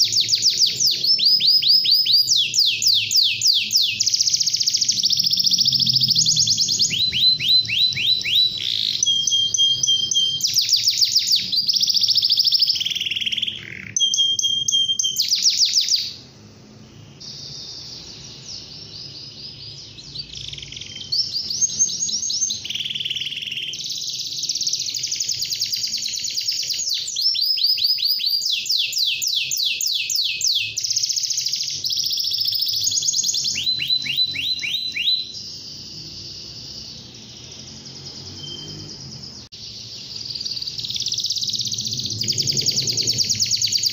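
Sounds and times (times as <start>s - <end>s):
canary singing: 0.0s - 43.9s.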